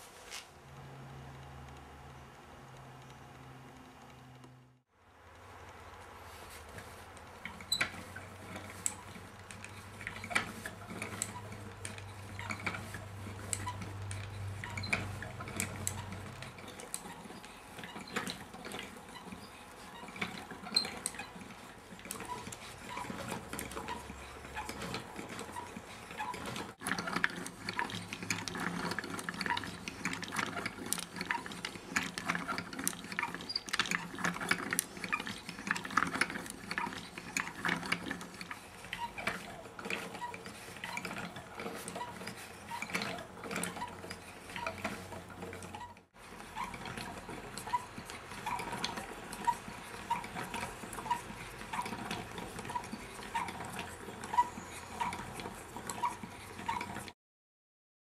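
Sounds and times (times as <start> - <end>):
wooden gears clicking and knocking: 5.2 - 57.2.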